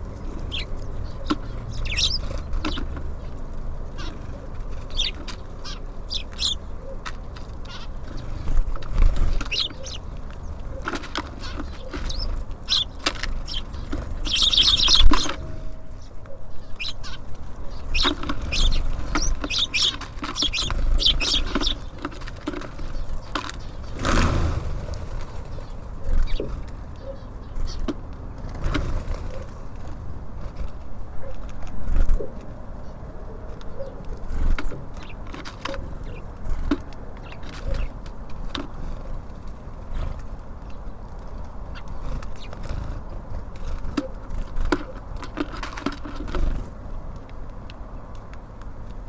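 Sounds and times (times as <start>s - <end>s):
wings fluttering: 0.0s - 32.5s, 34.1s - 47.2s
songbirds chirping: 0.0s - 49.0s.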